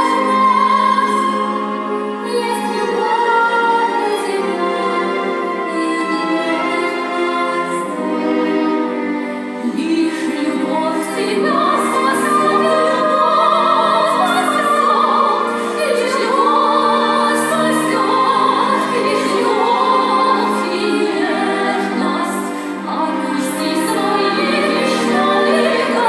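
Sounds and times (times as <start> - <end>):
operatic singing with vibrato: 0.0 - 26.0.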